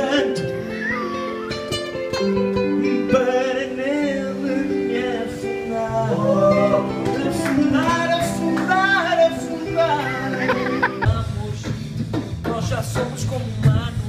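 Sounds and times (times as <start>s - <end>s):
man singing into microphone: 0.0s - 0.9s, 2.6s - 14.0s
held instrumental chords: 0.0s - 12.4s.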